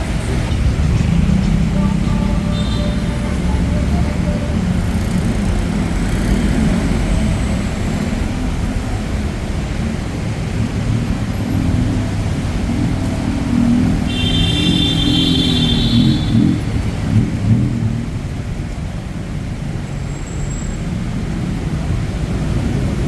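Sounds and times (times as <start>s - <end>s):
traffic rumble on wet road: 0.0s - 23.0s.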